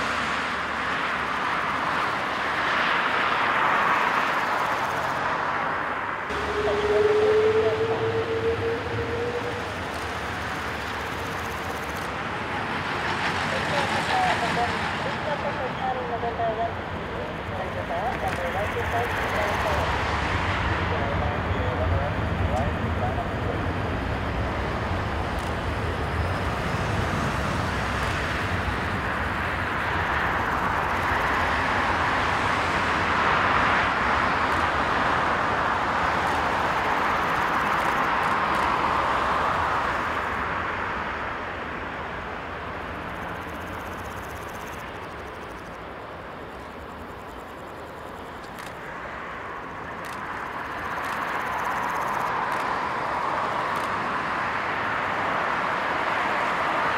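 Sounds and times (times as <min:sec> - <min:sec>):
jet engine roar: 0:00.0 - 0:56.9.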